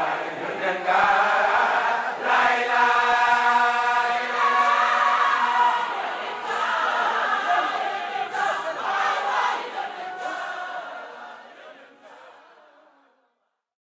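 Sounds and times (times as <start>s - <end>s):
group of women chanting: 0.0s - 13.1s.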